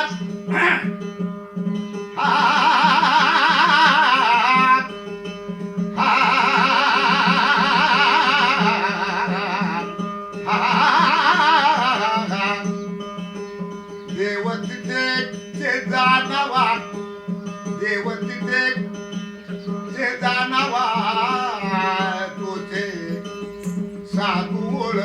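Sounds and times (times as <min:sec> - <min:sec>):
high melody with vibrato: 0:00.0 - 0:25.0.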